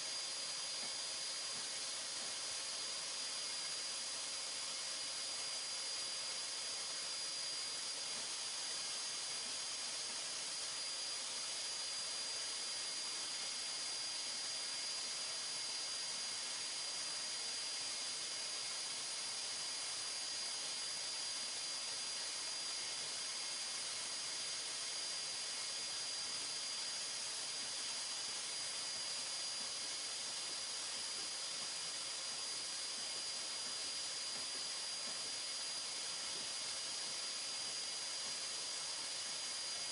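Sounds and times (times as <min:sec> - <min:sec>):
dust extraction vacuum hiss and whine: 0:00.0 - 0:39.9.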